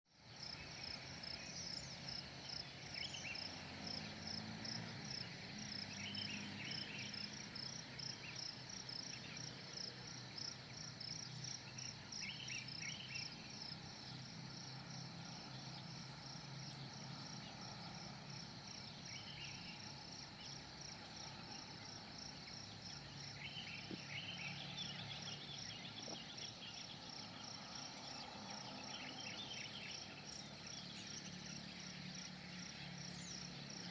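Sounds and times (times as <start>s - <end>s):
cricket chirping: 0.2s - 33.9s.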